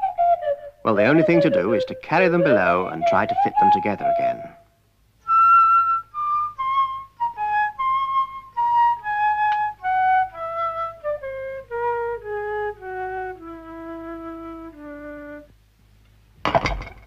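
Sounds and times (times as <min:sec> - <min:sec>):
flute-like woodwind descending notes: 0:00.0 - 0:15.5.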